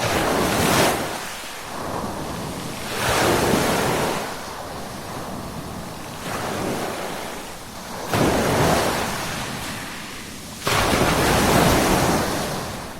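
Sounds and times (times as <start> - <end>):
ocean waves breaking: 0.0 - 12.9.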